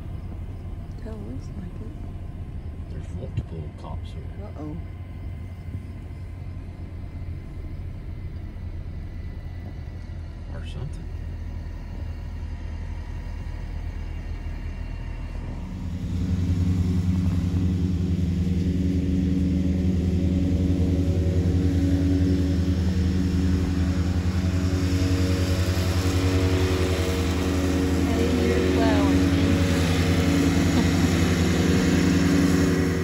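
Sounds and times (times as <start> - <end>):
car engine rumble: 0.0 - 33.0
humming drone: 0.0 - 33.0.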